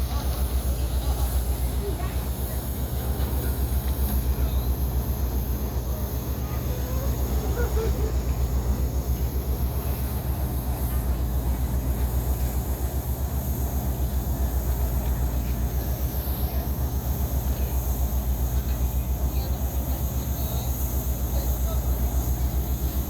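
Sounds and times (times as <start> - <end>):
ship engine throbbing: 0.0 - 22.7.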